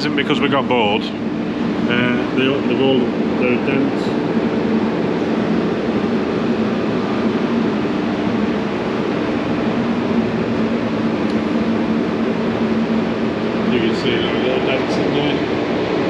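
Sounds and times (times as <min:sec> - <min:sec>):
constant low hum: 0:00.0 - 0:16.0
workshop machinery drone: 0:00.0 - 0:16.0.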